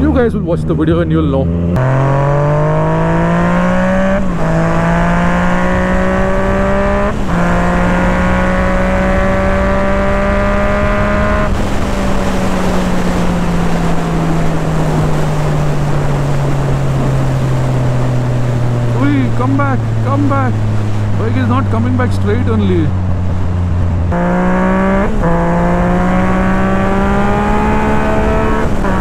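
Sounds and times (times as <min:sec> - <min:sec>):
motorcycle engine accelerating: 0:00.0 - 0:29.0
wind rush: 0:01.4 - 0:29.0.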